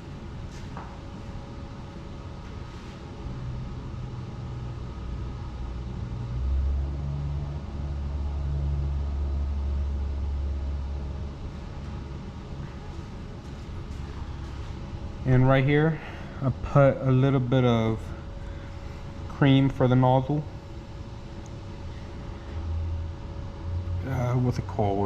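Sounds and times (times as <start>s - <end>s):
low rumble: 3.6s - 24.6s.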